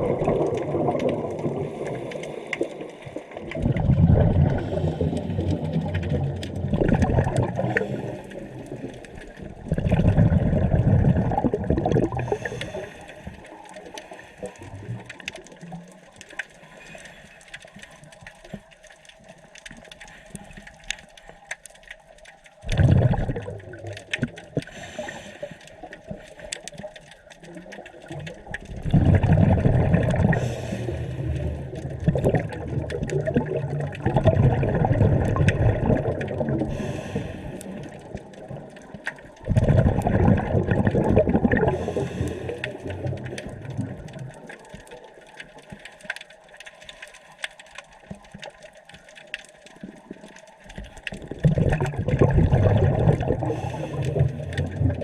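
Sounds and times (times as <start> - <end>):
fine crackle: 0.0 - 55.0
underwater bubbles rushing: 0.0 - 55.0.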